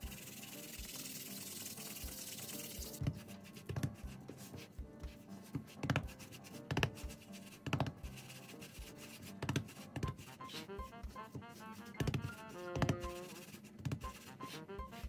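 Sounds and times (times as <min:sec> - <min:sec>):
music with steady beat: 0:00.0 - 0:15.0
hands patting dough: 0:02.0 - 0:15.0.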